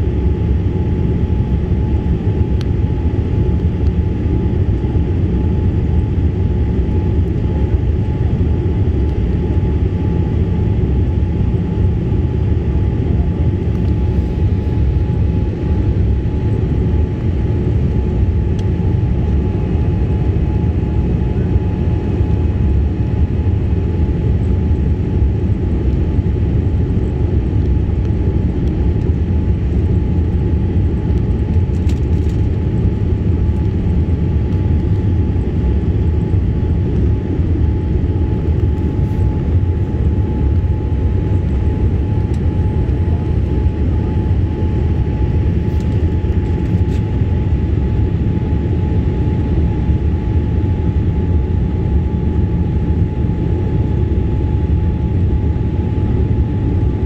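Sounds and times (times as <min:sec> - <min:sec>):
airliner cabin noise: 0:00.0 - 0:57.0
faint high hum: 0:00.0 - 0:57.0.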